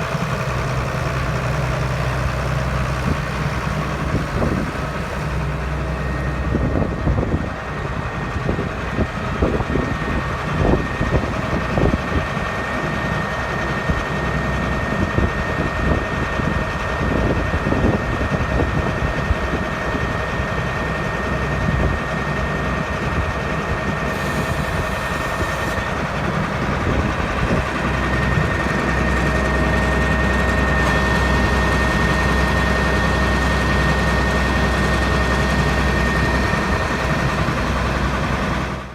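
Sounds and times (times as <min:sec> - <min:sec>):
thin steady whine: 0:00.0 - 0:38.9
tractor diesel engine running: 0:00.0 - 0:38.9.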